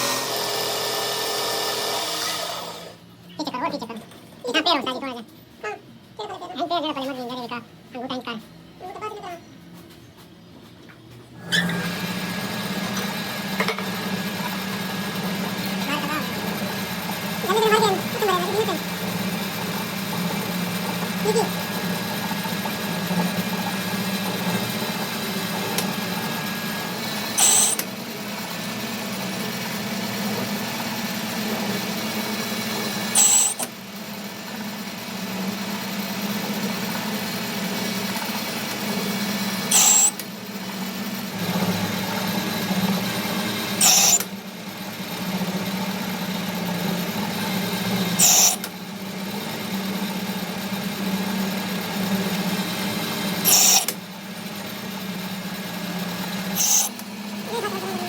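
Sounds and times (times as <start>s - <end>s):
power tool motor humming: 0.0s - 3.0s, 11.4s - 58.0s.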